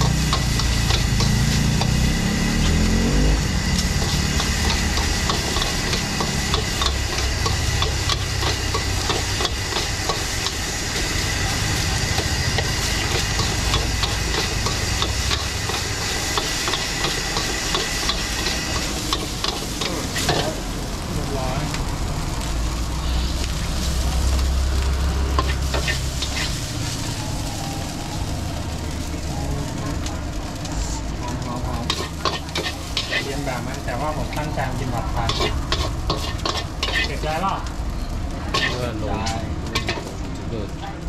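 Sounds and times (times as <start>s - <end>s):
spatula scraping a wok: 0.0s - 20.6s, 23.0s - 27.2s, 30.6s - 37.5s, 38.4s - 40.2s
gas burner rushing: 0.0s - 40.9s
food sizzling: 0.0s - 41.0s.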